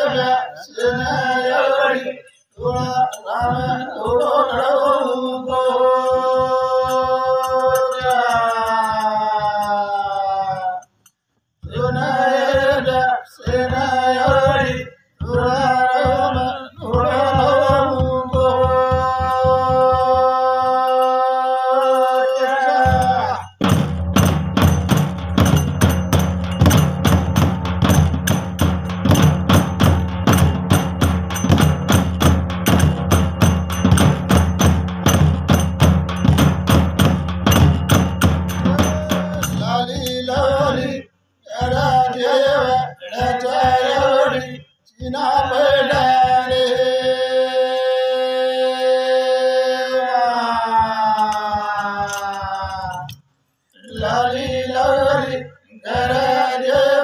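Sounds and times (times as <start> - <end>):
men singing a chant: 0.0 - 11.0, 11.6 - 57.0
drums fast steady beat: 2.6 - 11.0, 11.6 - 47.2, 50.4 - 53.2.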